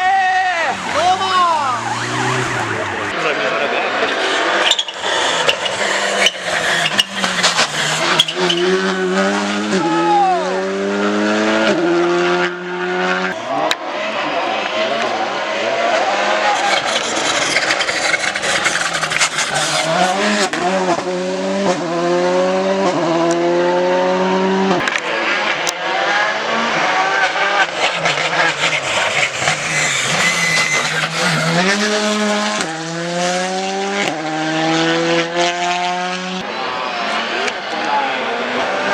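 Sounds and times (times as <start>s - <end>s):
car engine accelerating: 0.6s - 38.9s.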